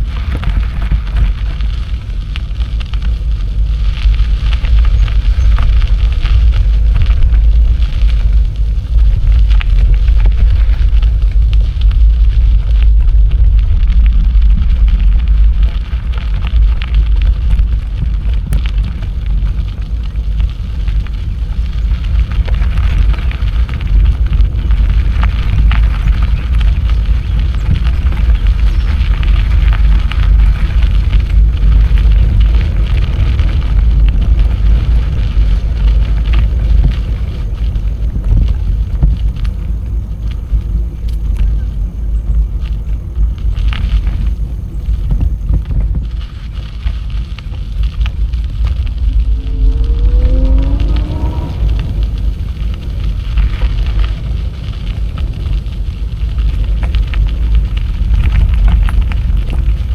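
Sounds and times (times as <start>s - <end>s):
bicycle tyres rolling on path: 0.0s - 59.9s
wind buffeting microphone: 0.0s - 59.9s.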